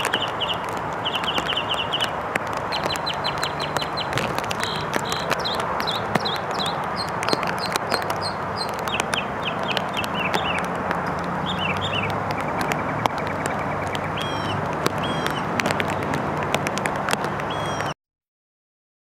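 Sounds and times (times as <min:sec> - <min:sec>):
small birds chirping: 0:00.0 - 0:16.2, 0:17.4 - 0:18.0
steady rushing noise: 0:00.0 - 0:17.9.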